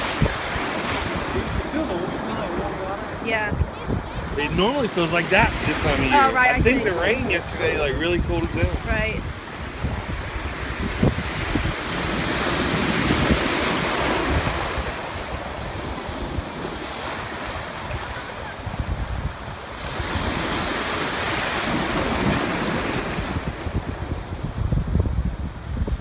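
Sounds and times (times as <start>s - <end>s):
ocean surf breaking: 0.0s - 25.7s
wind rumbling on microphone: 0.0s - 26.0s.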